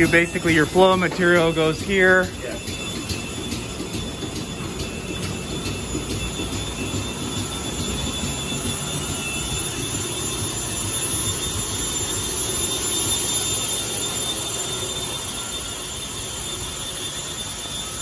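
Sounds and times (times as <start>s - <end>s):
faint high whines: 0.0s - 18.0s.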